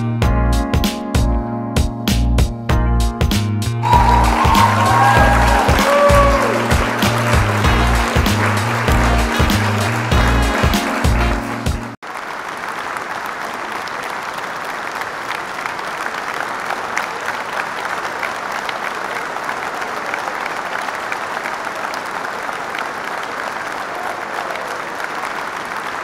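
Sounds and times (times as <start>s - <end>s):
crowd applause: 3.8s - 26.0s.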